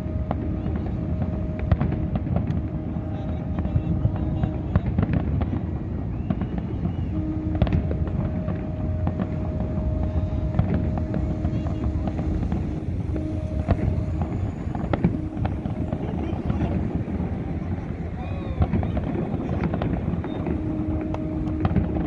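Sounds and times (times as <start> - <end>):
fireworks bangs and crackles: 0.0 - 22.0
low rumble: 0.0 - 22.0.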